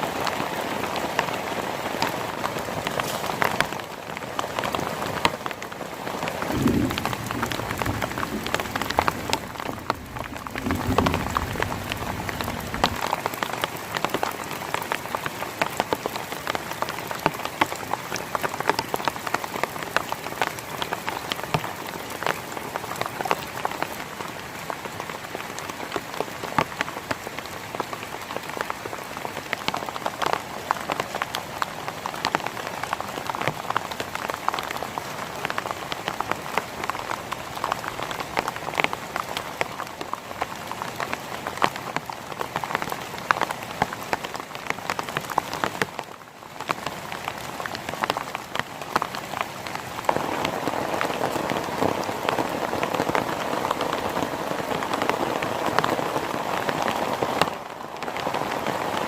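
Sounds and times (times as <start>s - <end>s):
heavy rain falling: 0.0s - 59.0s
raindrops tapping a surface: 0.0s - 59.0s.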